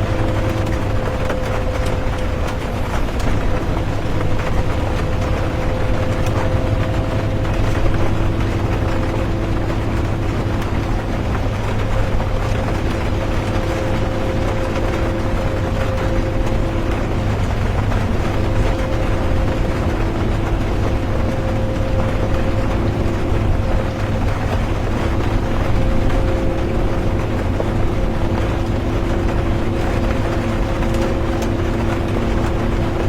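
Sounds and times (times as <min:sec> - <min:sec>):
bus engine and road rumble: 0:00.0 - 0:33.0
constant hum: 0:00.0 - 0:33.0
rain hissing: 0:00.0 - 0:33.0.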